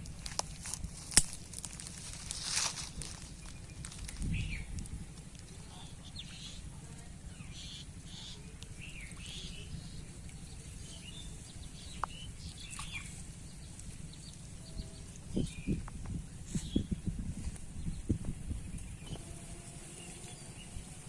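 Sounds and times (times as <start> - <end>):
steady low rumble: 0.0 - 21.0
birds chirping: 1.4 - 21.0.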